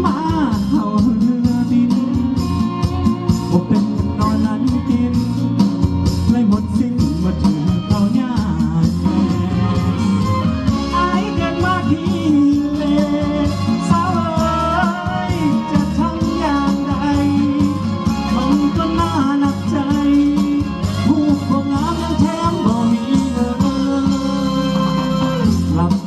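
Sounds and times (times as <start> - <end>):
solo voice singing: 0.0 - 2.7, 6.3 - 26.0
band accompaniment: 0.0 - 26.0.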